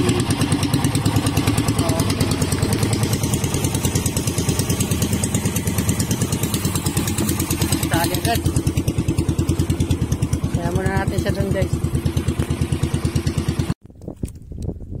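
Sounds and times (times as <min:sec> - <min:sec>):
boat engine chugging: 0:00.0 - 0:13.8.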